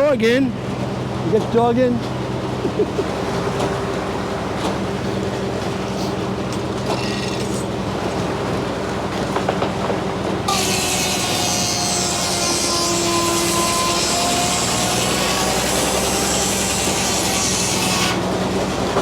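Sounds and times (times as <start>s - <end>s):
sawmill machinery running: 0.0s - 19.0s.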